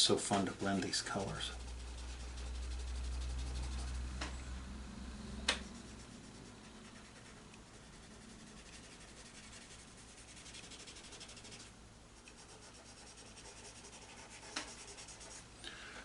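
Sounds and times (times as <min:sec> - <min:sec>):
cotton swab scratching on paper: 0:00.6 - 0:04.2, 0:05.6 - 0:15.4.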